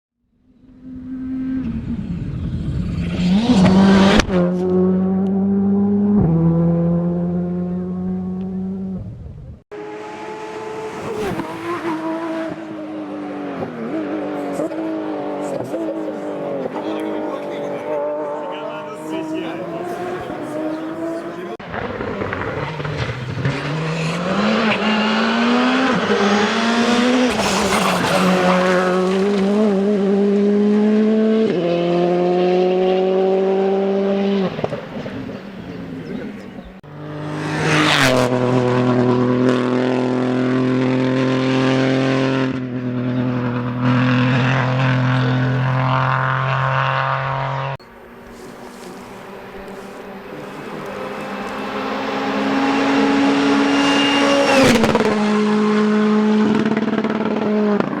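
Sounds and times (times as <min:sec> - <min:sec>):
distant car approaching: 0:00.2 - 0:58.0
rally car engines at full throttle: 0:00.4 - 0:58.0
car passing close by: 0:09.8 - 0:58.0.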